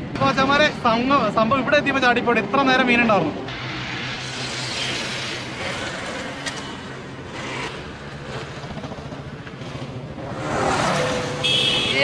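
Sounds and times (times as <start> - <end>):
road traffic on a bridge: 0.0 - 12.0.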